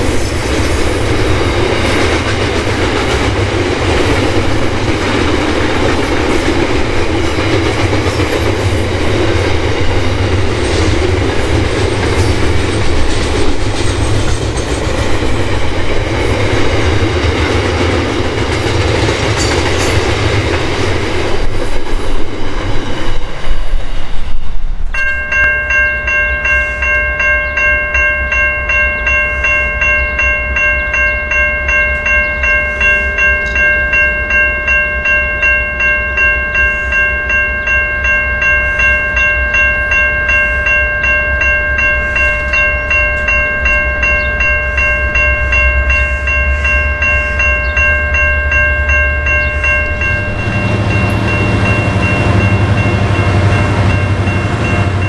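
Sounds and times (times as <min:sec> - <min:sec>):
level crossing warning bell: 0:00.0 - 0:20.8, 0:24.9 - 0:55.0
freight train rumbling past: 0:00.0 - 0:55.0.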